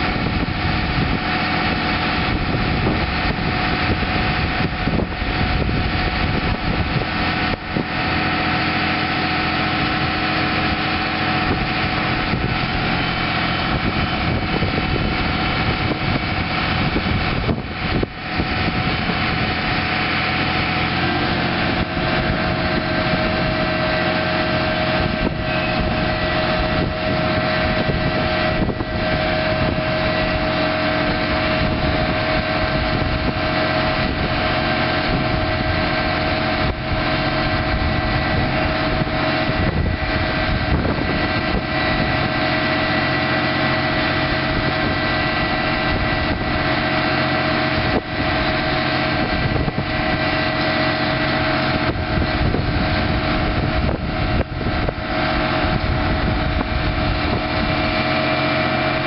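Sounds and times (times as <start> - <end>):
constant whine: 0.0 - 59.0
diesel truck engine running: 0.0 - 59.0.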